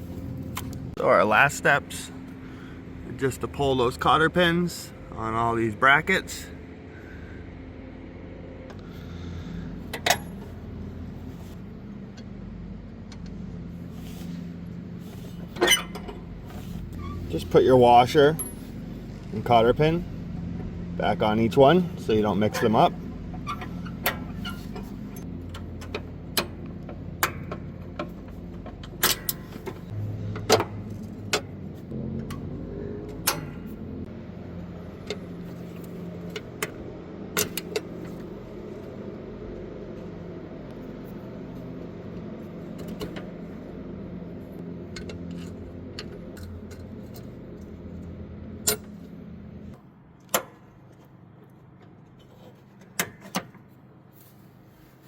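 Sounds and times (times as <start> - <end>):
steady low hum: 0.0 - 51.4.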